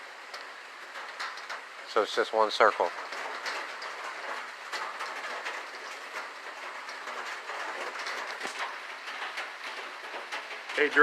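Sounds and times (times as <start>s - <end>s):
rain on a tin roof: 0.0s - 11.0s.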